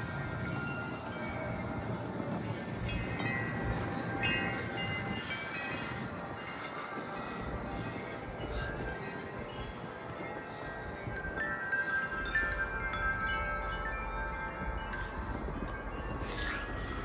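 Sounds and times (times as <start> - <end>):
low wind rumble: 0.0 - 17.0
wind chimes ringing: 0.0 - 17.0.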